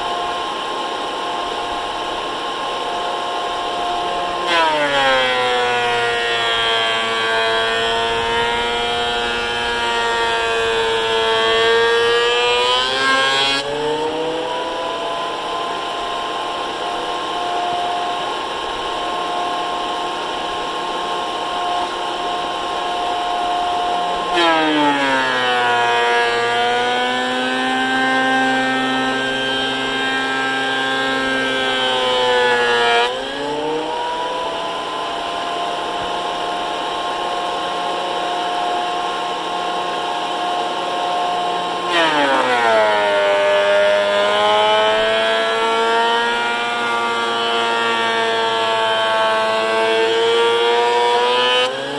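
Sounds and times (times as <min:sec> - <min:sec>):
thickness planer motor whine: 0:00.0 - 0:51.9.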